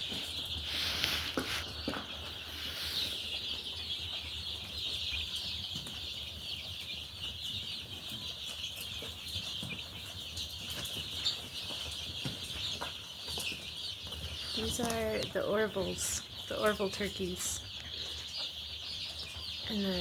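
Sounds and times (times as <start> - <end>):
turkey poults peeping: 0.0 - 20.0.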